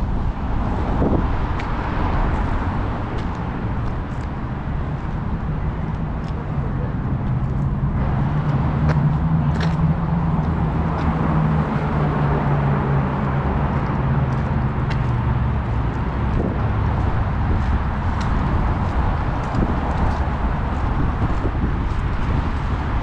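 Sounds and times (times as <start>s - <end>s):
city noise: 0.0s - 23.0s
road traffic engine hum: 0.0s - 23.0s.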